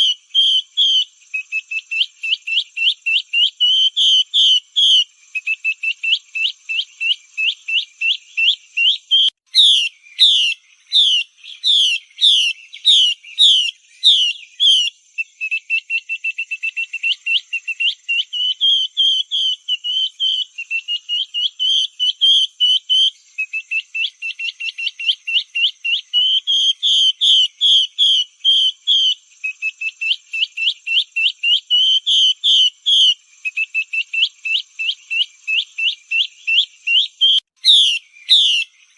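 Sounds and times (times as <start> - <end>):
bird whistling call: 0.0 - 38.7.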